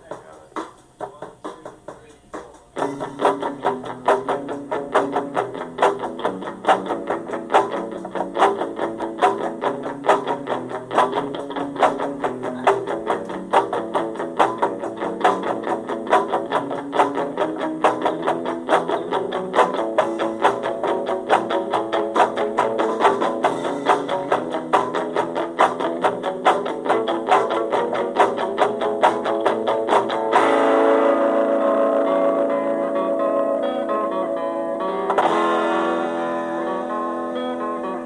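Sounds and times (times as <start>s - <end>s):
rock song: 0.0s - 38.0s
guitar picking repeated notes: 2.8s - 38.0s.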